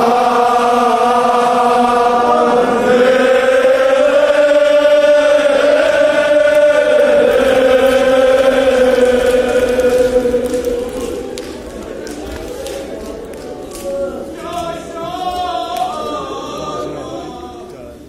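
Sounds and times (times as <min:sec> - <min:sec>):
men chanting: 0:00.0 - 0:12.1, 0:13.8 - 0:17.8.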